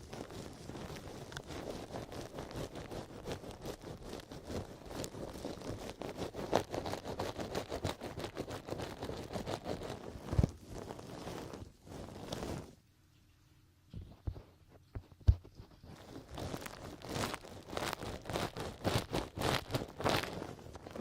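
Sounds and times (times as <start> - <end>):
artificial grass rustling: 0.0 - 21.0.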